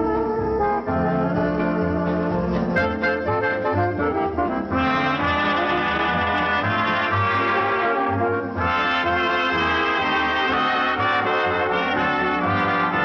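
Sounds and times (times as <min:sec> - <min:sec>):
brass band playing chords: 0:00.0 - 0:13.0.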